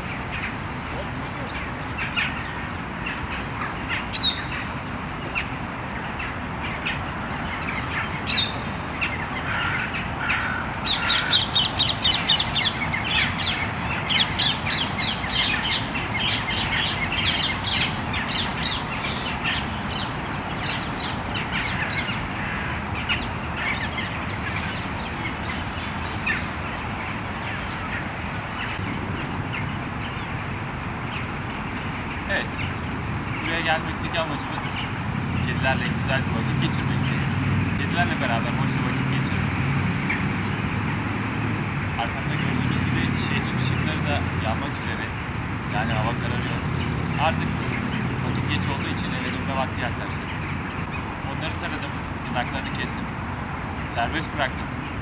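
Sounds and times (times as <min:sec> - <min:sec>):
birds squawking and cawing: 0:00.0 - 0:55.0.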